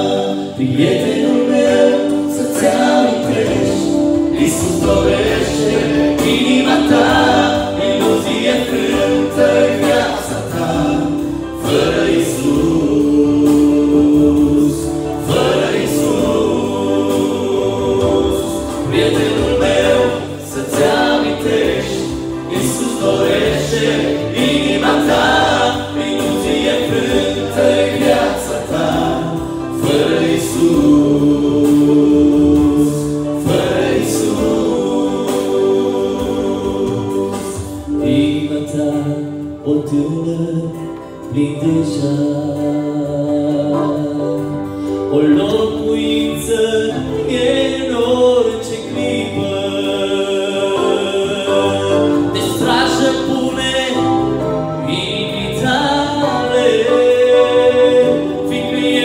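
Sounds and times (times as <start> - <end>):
acoustic guitar: 0.0 - 59.0
keyboard with steady beat: 0.0 - 59.0
men singing in harmony: 0.0 - 59.0.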